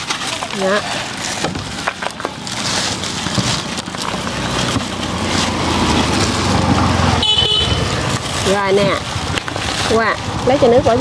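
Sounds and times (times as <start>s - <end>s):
plastic bags crinkling: 0.0s - 11.0s
motorbike engine: 1.5s - 11.0s.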